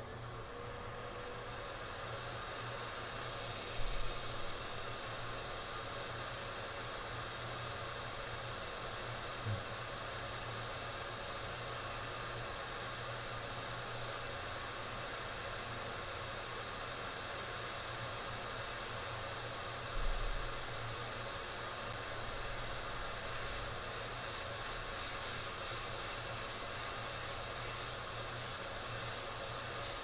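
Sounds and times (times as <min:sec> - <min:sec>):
hot air station hissing: 0:00.0 - 0:30.0.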